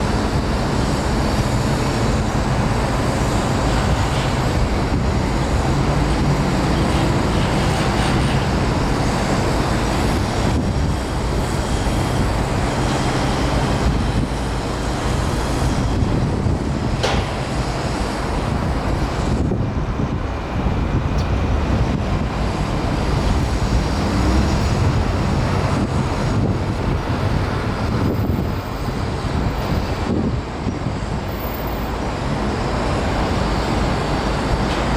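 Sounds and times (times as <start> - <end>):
vehicle engines running: 0.0 - 15.9, 17.2 - 30.1.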